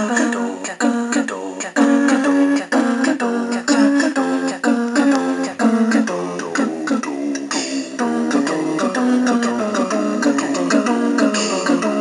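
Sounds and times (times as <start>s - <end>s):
chiptune synthesized music: 0.0s - 12.0s.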